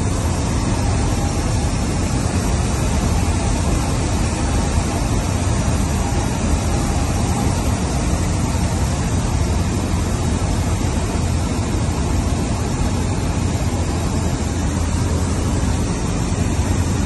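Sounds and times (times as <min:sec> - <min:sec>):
light aircraft engine in cabin: 0:00.0 - 0:17.0.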